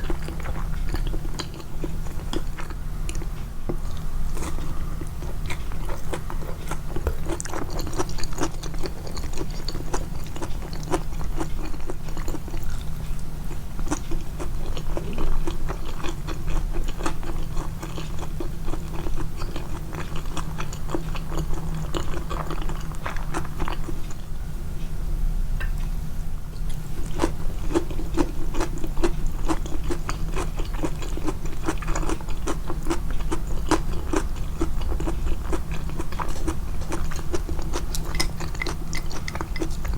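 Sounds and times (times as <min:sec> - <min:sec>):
person chewing food: 0:00.0 - 0:24.2, 0:26.6 - 0:39.9.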